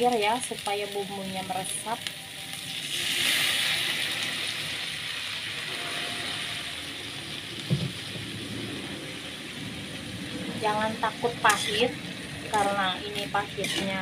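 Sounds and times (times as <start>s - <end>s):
leaves sizzling in a hot pan: 0.0s - 14.0s.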